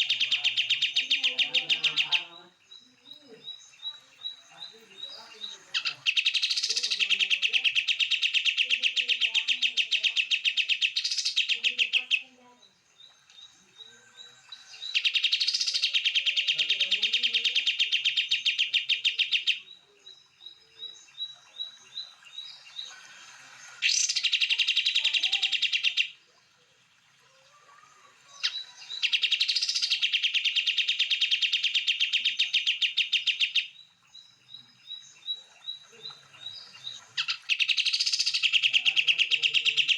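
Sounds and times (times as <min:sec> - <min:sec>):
short repeated bird chirps: 0:00.0 - 0:12.2, 0:13.0 - 0:23.0, 0:23.8 - 0:26.2, 0:28.3 - 0:39.9.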